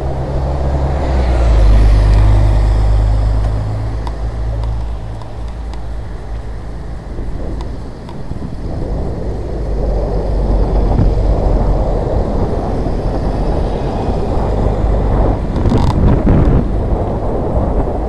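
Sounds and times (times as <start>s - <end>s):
road and traffic noise: 0.0s - 18.0s
wind rushing over microphone: 0.0s - 18.0s.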